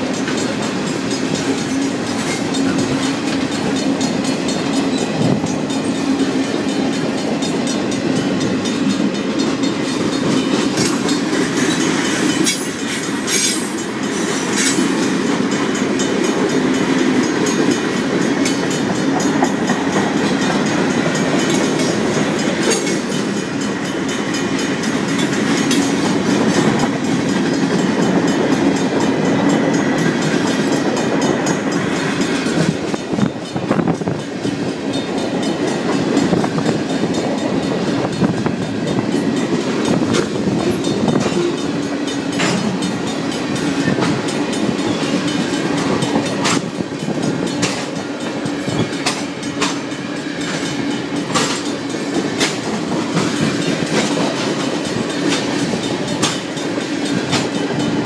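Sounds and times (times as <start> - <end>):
crossing warning bell ringing: 0.0 - 58.0
freight train rolling: 0.0 - 58.0
train wheels clicking over rail joints: 0.0 - 58.0.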